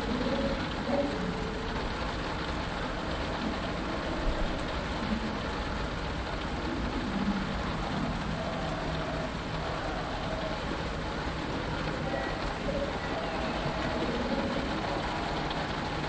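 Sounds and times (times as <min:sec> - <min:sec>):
rain on a canopy: 0:00.0 - 0:16.0.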